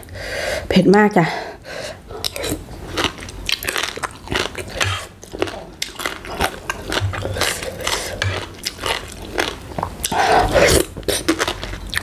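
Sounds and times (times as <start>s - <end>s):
chewing and crunching food: 2.1s - 12.0s.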